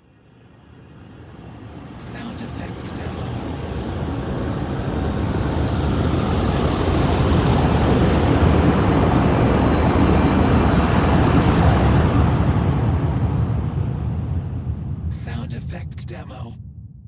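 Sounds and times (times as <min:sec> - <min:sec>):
synthesized sci-fi low drone: 0:00.0 - 0:17.0.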